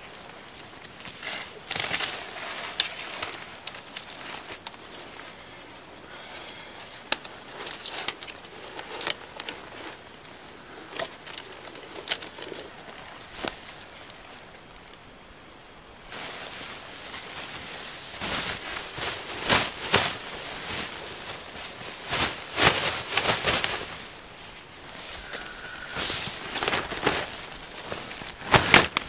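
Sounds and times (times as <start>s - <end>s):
nylon tent fabric rustling: 0.0s - 29.0s.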